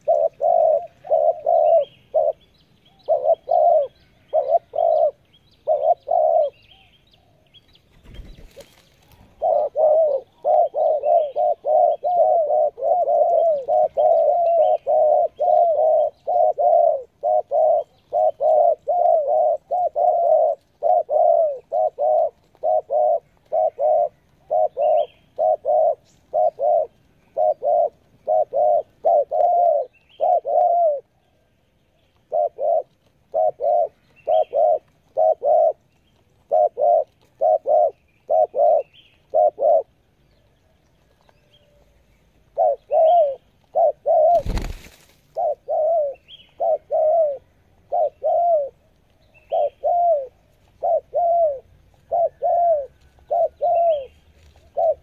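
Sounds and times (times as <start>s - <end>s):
dove rapid cooing: 0.0s - 2.4s, 3.0s - 6.6s, 7.9s - 31.2s, 32.2s - 40.0s, 42.5s - 55.0s.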